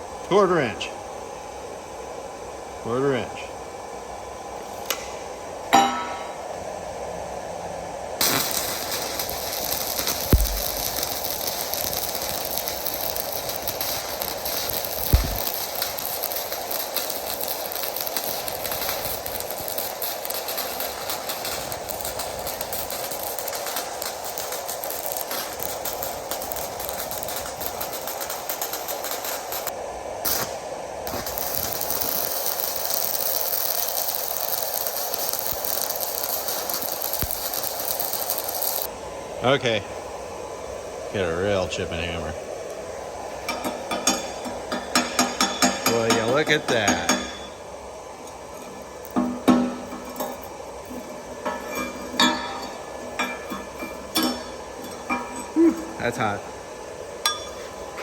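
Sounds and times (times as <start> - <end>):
welding arc crackling and hissing: 4.5 - 7.3, 8.0 - 58.0.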